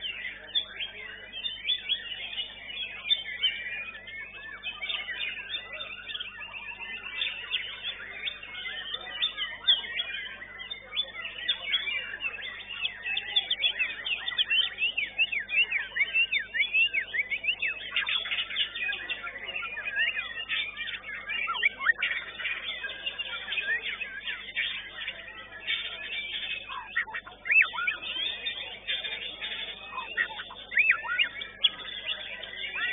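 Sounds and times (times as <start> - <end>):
bird singing whistles and trills: 0.0 - 32.9.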